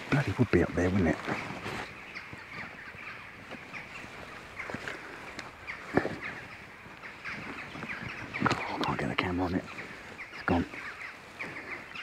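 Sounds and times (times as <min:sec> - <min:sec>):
faint bird calls: 0:00.0 - 0:12.0.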